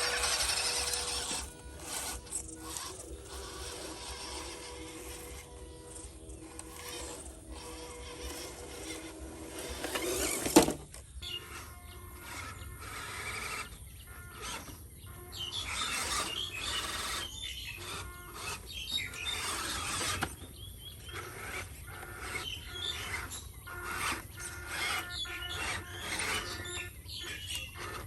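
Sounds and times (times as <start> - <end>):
rc truck motors whining: 0.0 - 28.0.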